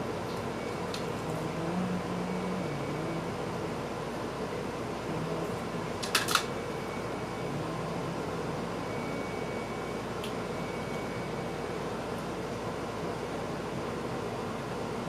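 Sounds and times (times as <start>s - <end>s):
fan hiss and hum: 0.0s - 15.0s.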